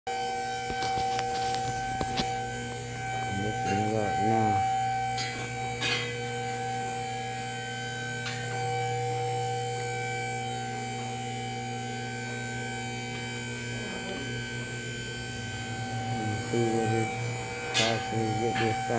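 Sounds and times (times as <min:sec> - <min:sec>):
electrical mains hum: 0:00.1 - 0:18.9.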